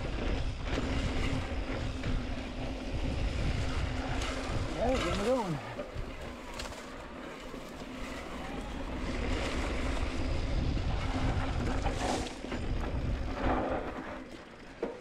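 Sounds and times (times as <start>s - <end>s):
wind rushing over microphone: 0.0s - 14.3s
tyres rolling on dirt: 0.0s - 15.0s.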